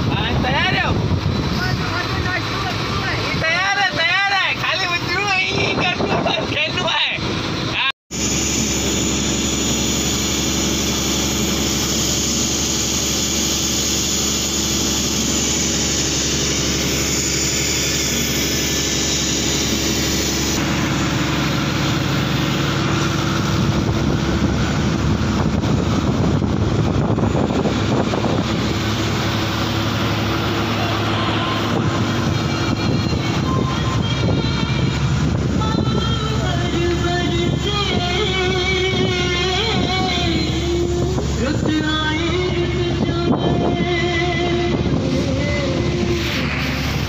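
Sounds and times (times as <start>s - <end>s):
boat engine running: 0.0s - 47.0s
water splashing along hull: 0.0s - 47.0s.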